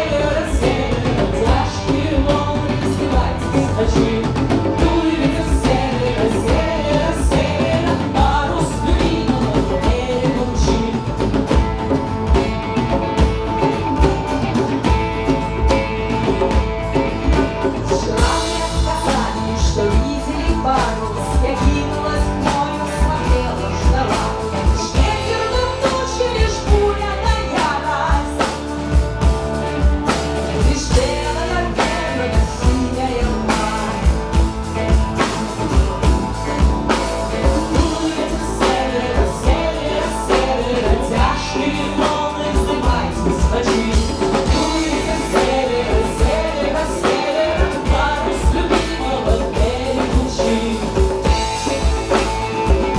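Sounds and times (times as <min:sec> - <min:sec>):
woman singing: 0:00.0 - 0:12.5, 0:14.0 - 0:52.9
folk-rock band playing live: 0:00.0 - 0:52.9.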